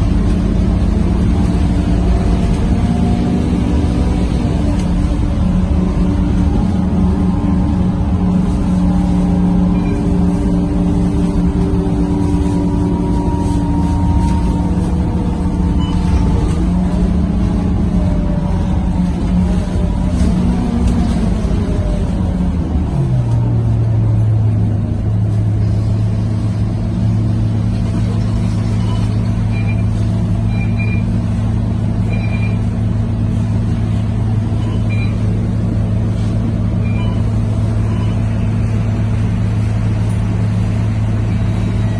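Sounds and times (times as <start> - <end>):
bus diesel engine at full throttle: 0.0 - 41.9.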